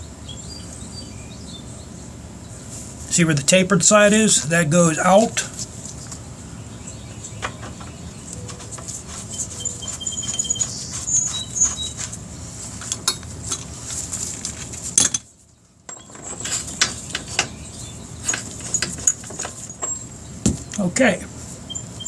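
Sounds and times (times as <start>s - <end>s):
birds chirping: 0.0s - 12.6s, 15.5s - 22.0s.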